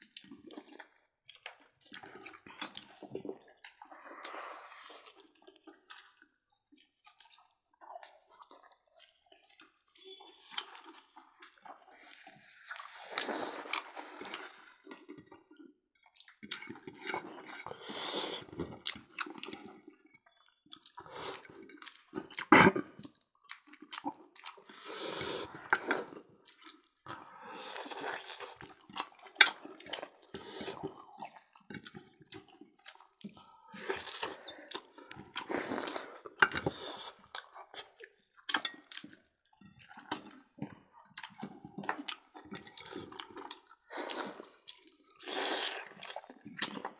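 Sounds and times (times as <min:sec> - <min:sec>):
wet chewing and lip-smacking: 0:00.0 - 0:17.6, 0:18.4 - 0:46.9.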